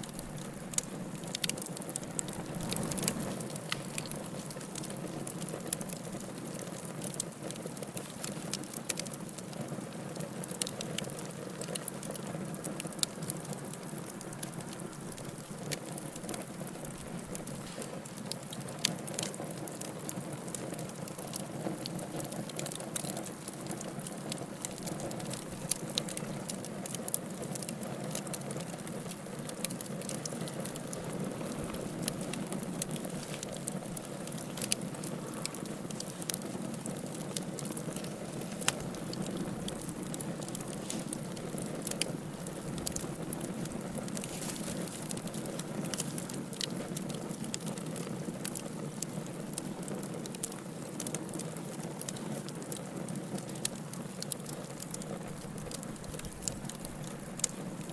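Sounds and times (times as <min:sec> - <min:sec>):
fire crackling and popping: 0:00.0 - 0:57.9
fire flames hissing: 0:00.0 - 0:57.9.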